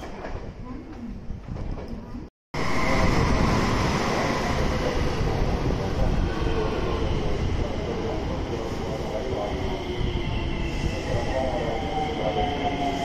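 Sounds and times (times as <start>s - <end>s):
steady train whine: 2.6s - 13.0s.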